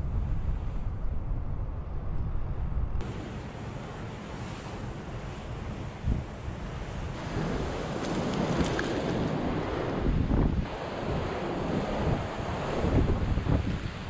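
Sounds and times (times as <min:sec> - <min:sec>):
blizzard wind buffeting microphone: 0:00.0 - 0:14.0.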